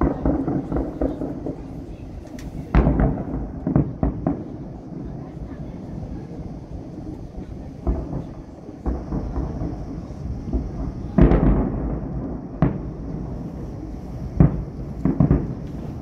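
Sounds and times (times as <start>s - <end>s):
distant fireworks booming: 0.0s - 16.0s.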